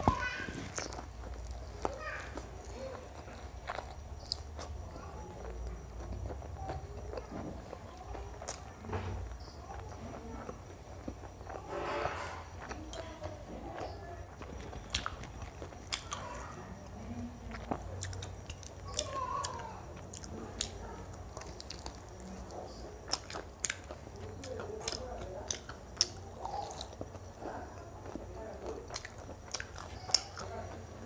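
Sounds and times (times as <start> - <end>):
crunchy bites: 0.0 - 31.0
wet chewing: 0.0 - 31.0.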